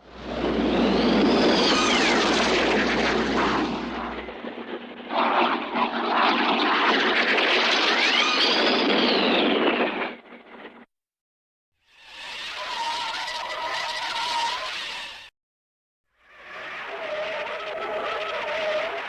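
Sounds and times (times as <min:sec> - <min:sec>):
cartoon jet engine roar: 0:00.0 - 0:10.9, 0:12.0 - 0:15.3, 0:16.3 - 0:19.0.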